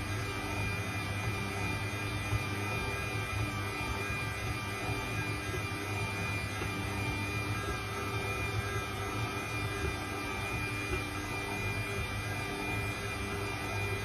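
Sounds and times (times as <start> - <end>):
stand mixer motor hum: 0.0 - 14.0.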